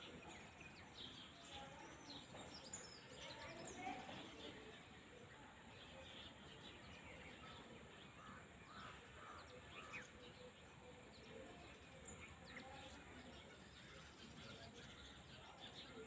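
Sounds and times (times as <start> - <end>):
low steady outdoor hiss: 2.7 - 16.0.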